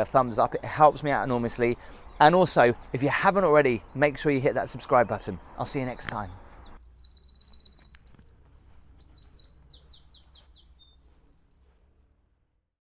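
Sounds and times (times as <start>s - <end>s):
songbird chirps and trills: 0.0s - 12.0s.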